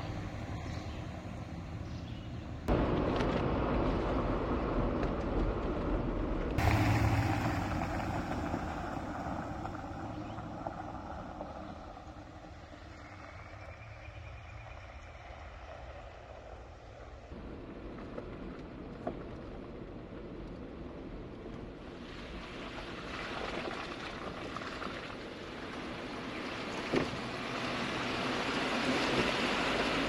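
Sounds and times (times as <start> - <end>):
vehicle on dirt road: 0.0 - 30.0.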